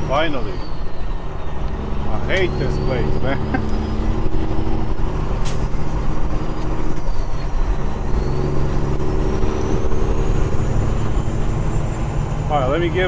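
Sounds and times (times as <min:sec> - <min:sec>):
truck diesel engine from inside cab: 0:00.0 - 0:13.0.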